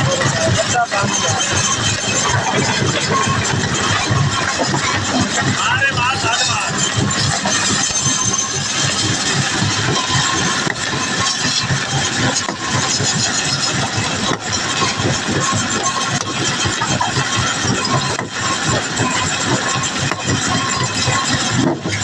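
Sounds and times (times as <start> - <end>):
heavy machinery engine din: 0.0 - 22.0.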